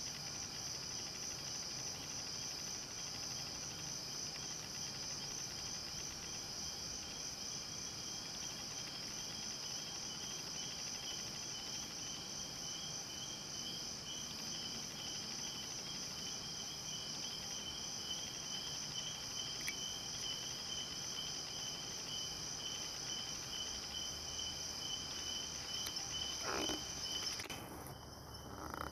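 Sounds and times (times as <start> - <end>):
crickets and night insects trilling: 0.0 - 28.9.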